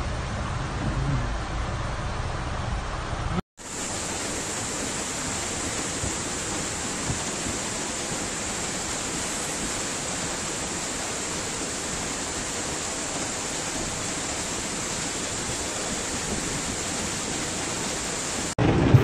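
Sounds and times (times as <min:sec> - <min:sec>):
flood water rushing: 0:03.6 - 0:19.0.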